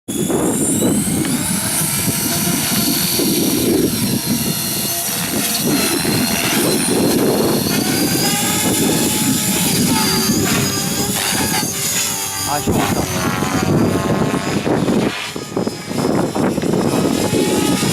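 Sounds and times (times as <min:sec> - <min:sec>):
gusty low rumble: 0:00.1 - 0:17.9
rc helicopter rotor whine: 0:00.1 - 0:17.9.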